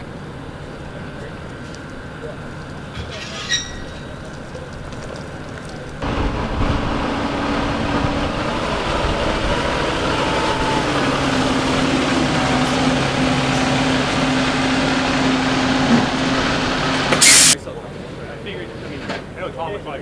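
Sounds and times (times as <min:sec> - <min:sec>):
diesel engine idling: 0:00.0 - 0:03.2, 0:03.8 - 0:17.6.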